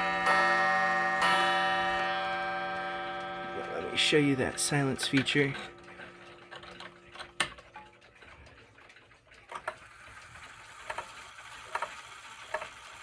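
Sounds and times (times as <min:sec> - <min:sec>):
clock mechanism clicking: 0:00.0 - 0:13.0.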